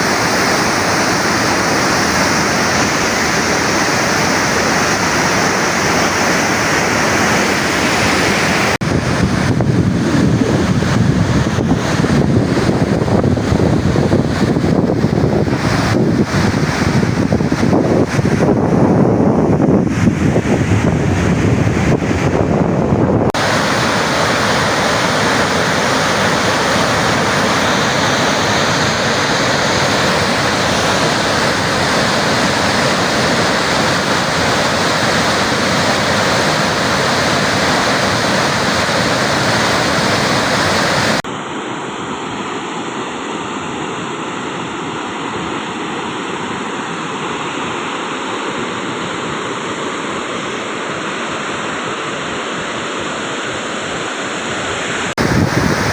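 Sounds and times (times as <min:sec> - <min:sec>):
floodwater rushing through spillway: 0:00.0 - 0:55.9.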